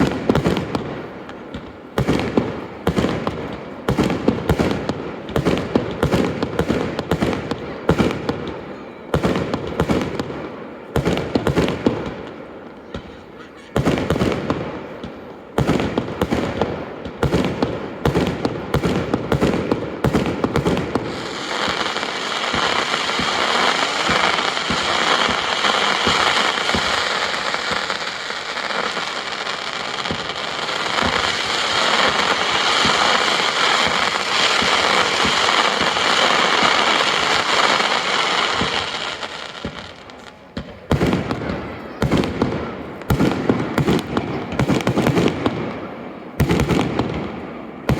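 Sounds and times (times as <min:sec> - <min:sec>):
fireworks bangs: 0:00.0 - 0:47.9
fireworks crackling: 0:00.0 - 0:47.9.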